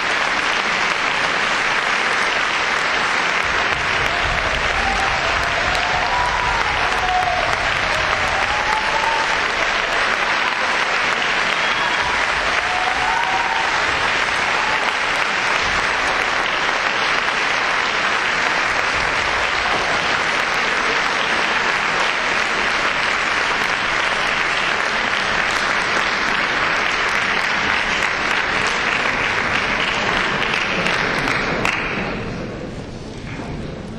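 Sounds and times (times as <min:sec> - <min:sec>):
calls from audience: 0:00.0 - 0:32.1
audience applauding: 0:00.0 - 0:32.6.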